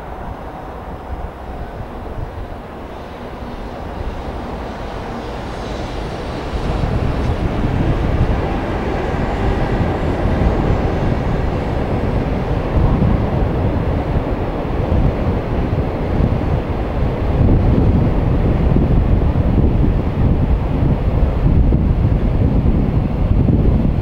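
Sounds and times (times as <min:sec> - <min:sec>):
train wheels on track: 0:00.0 - 0:23.9.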